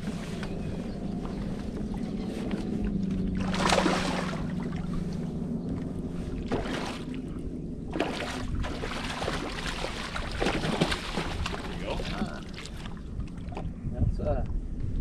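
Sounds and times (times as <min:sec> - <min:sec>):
boat motor humming: 0:00.0 - 0:13.9.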